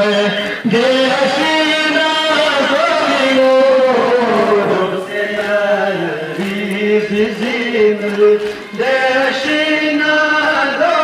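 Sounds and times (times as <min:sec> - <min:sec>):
men chanting a lament: 0:00.0 - 0:11.0.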